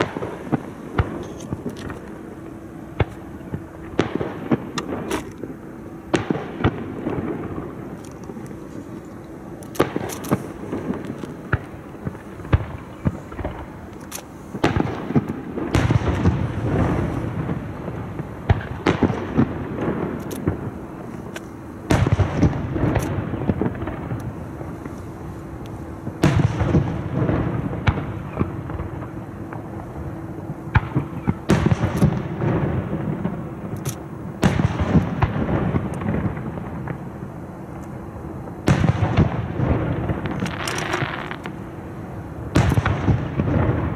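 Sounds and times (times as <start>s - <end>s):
fireworks bangs and crackles: 0.0s - 43.9s
rumbling firework volleys: 0.0s - 43.9s.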